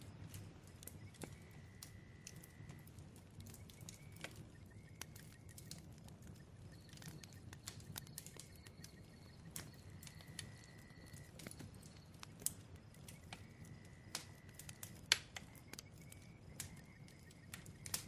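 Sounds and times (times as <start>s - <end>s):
bonfire crackling: 0.0s - 18.0s.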